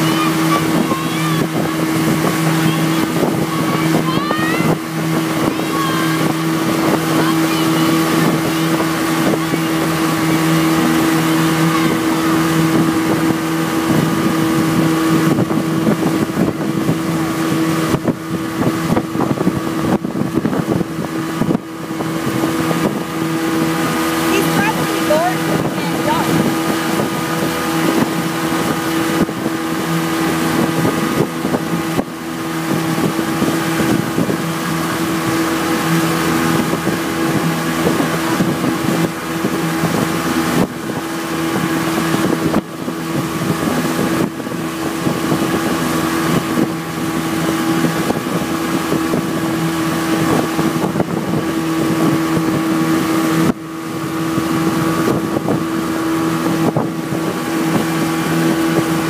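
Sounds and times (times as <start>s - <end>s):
boat engine humming: 0.0s - 59.0s
churning wake water: 0.0s - 59.0s
wind rushing: 0.0s - 59.0s.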